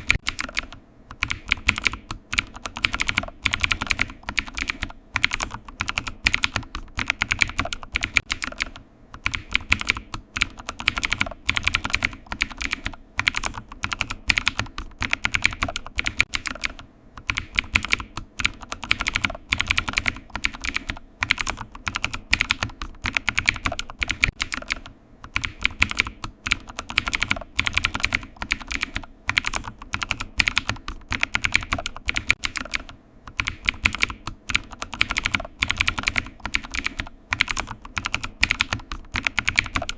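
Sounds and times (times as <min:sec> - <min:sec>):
computer keyboard key clicks: 0:00.0 - 0:39.9.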